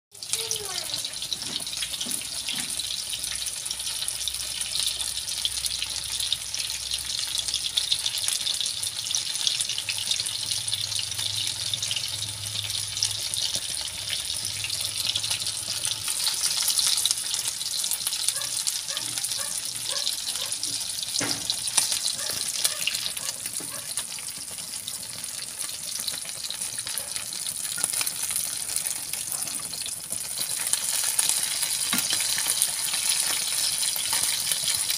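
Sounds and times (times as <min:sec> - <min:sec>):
fish deep-frying in hot oil: 0:00.1 - 0:34.9.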